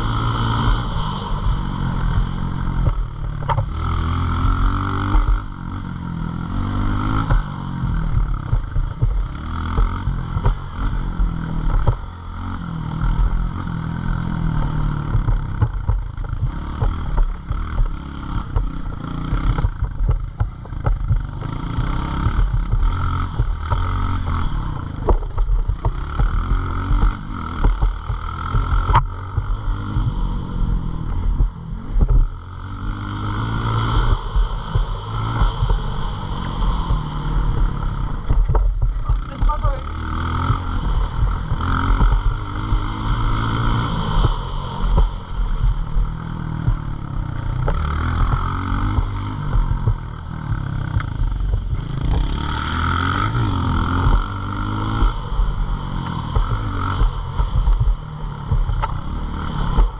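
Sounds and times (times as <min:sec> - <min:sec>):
pit bike engine revving: 0:00.0 - 0:59.9
bike rattles and knocks: 0:01.6 - 0:59.9.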